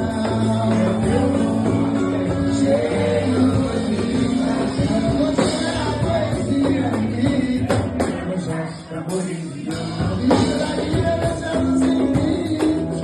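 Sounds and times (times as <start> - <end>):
person singing: 0.0 - 13.0
samba percussion: 0.0 - 13.0.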